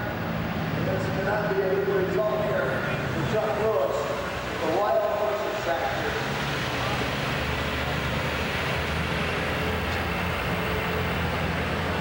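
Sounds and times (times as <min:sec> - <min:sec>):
indoor arena noise: 0:00.0 - 0:12.0.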